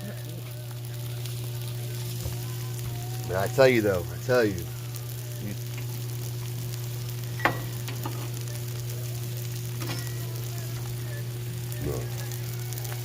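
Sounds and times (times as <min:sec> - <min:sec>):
low hum: 0:00.0 - 0:13.0
meat sizzling on a griddle: 0:00.0 - 0:13.0.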